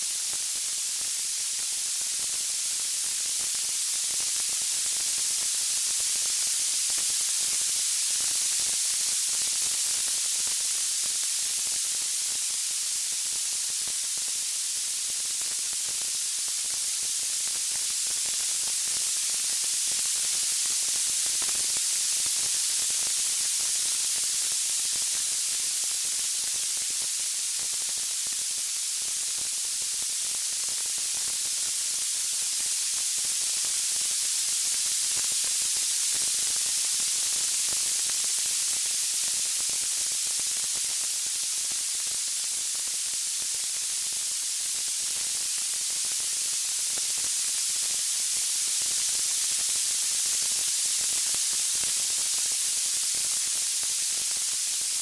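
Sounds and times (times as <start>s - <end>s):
high-pitched white noise hiss: 0.0s - 55.0s.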